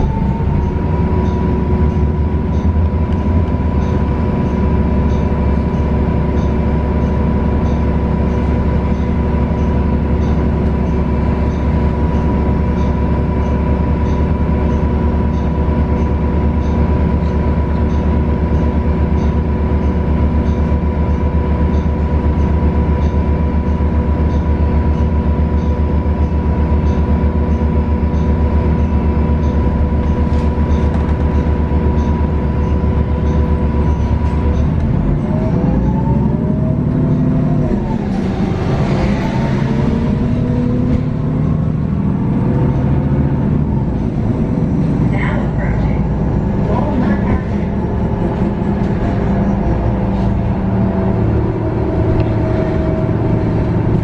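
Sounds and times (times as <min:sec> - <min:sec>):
bus engine drone: 0:00.0 - 0:54.0
transmission whine: 0:00.0 - 0:54.0.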